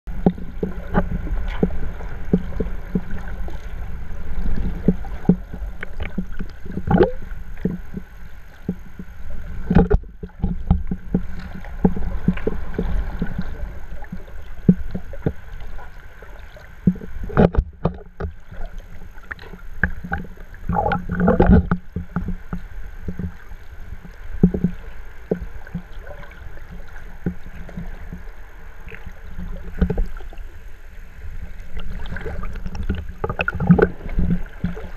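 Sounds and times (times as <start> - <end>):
muffled underwater sloshing: 0.1 - 34.9.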